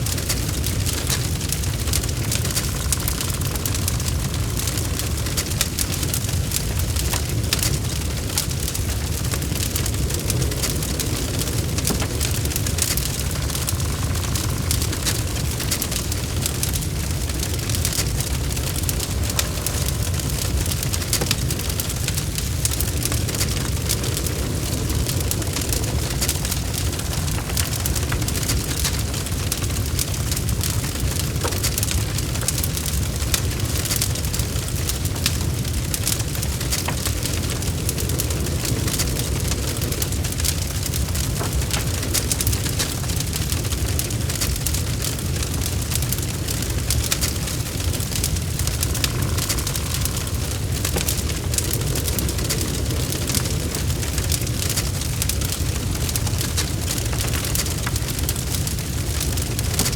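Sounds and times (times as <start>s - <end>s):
low rumble of flames: 0.0s - 59.9s
wood crackling and popping: 0.0s - 59.9s.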